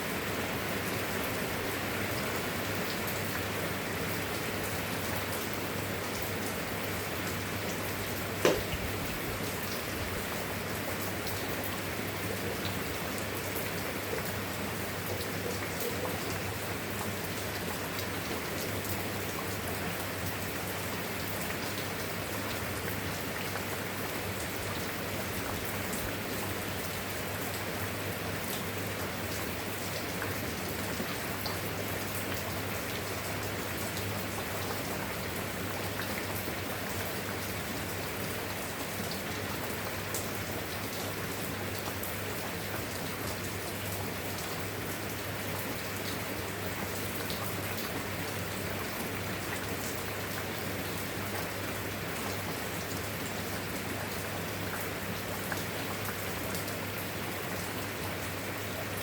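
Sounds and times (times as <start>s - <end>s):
rain hissing on a surface: 0.0s - 59.0s.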